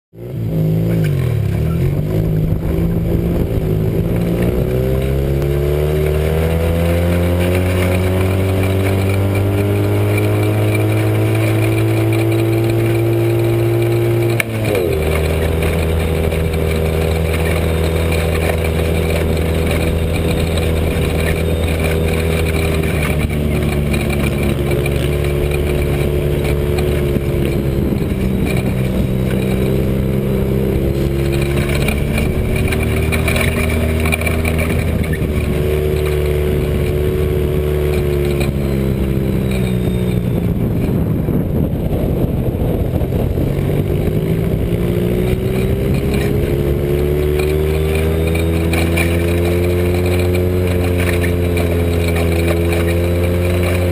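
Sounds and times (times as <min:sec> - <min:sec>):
dune buggy engine running hard: 0:00.1 - 0:53.9.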